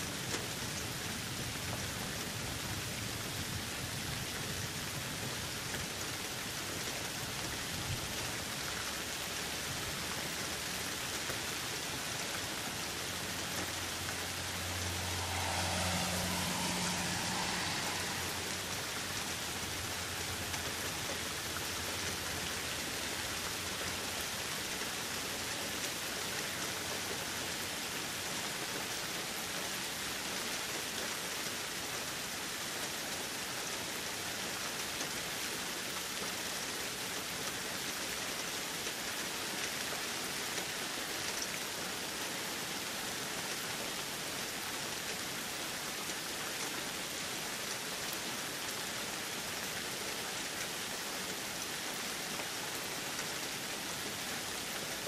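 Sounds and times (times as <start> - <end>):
steady rain on surfaces: 0.0 - 55.0.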